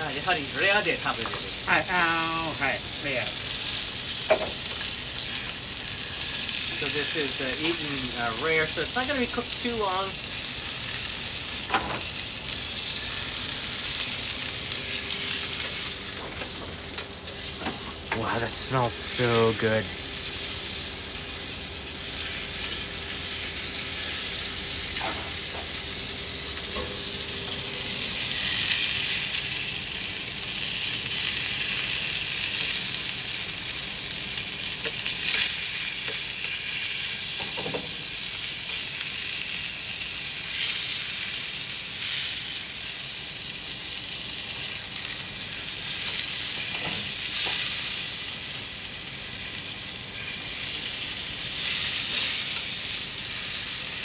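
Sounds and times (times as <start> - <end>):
beef sizzling in frying pan: 0.0 - 54.0.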